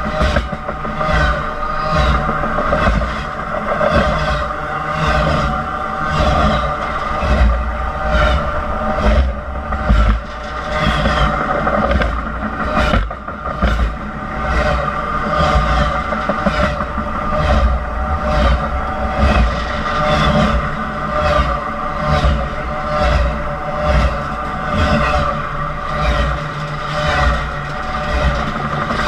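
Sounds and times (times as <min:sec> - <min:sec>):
heavy train rumble: 0:00.0 - 0:29.0.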